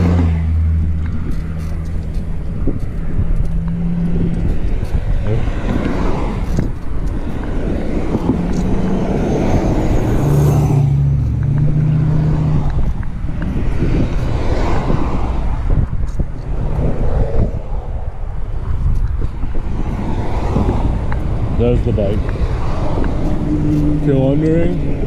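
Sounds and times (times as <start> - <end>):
road and traffic noise: 0.0 - 25.0
wind on microphone: 0.0 - 25.0.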